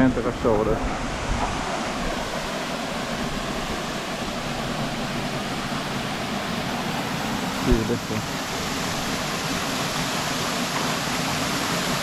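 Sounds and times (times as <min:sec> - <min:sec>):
waterfall pouring: 0:00.5 - 0:12.0.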